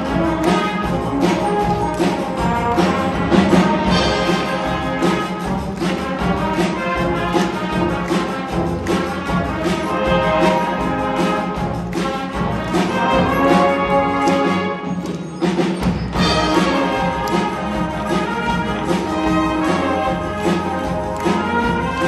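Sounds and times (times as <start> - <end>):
brass band playing: 0.0 - 22.0
percussion beat: 0.0 - 22.0.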